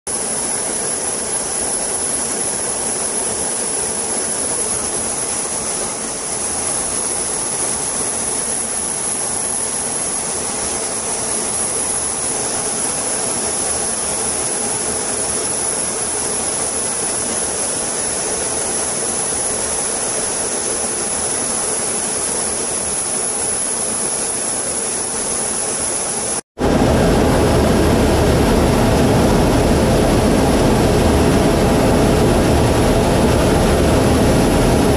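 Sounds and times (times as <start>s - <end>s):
jet engine and airflow rush: 0.1s - 34.9s.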